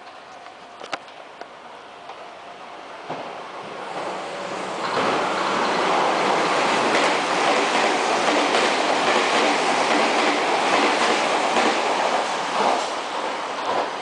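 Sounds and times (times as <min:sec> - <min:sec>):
electric train running past: 0:01.5 - 0:14.0.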